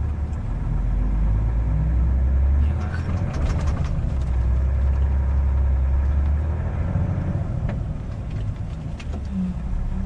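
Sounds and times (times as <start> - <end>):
truck diesel engine under load: 0.0 - 10.0.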